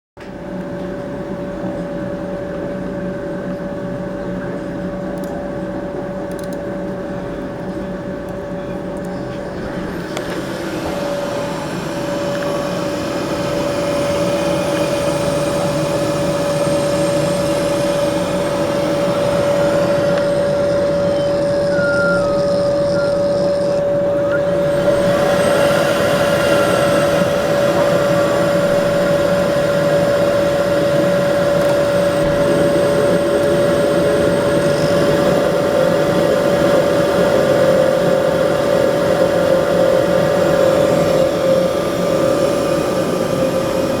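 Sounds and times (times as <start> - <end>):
boiler fan and burner rushing: 0.2 - 44.0.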